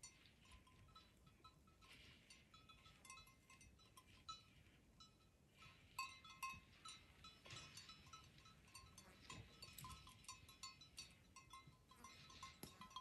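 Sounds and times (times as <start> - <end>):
goat bells clinking: 0.0 - 13.0.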